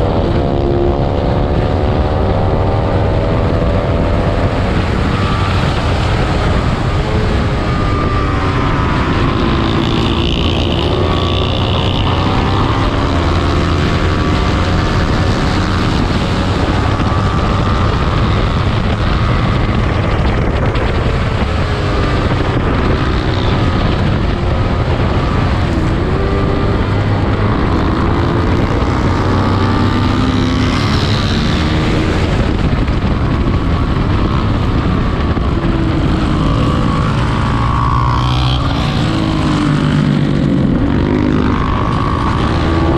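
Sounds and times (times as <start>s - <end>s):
racing motorcycle engine high revs: 0.0s - 42.9s
wind noise: 0.0s - 42.9s.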